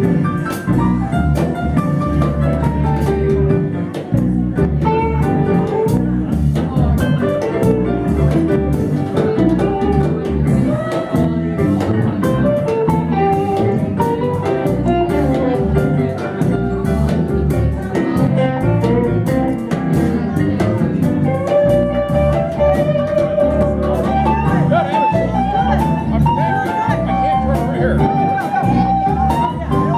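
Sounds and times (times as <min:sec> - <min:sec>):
guitar: 0:00.0 - 0:29.9
pulsing bass line: 0:00.0 - 0:29.9
steady drum beat: 0:00.0 - 0:29.9.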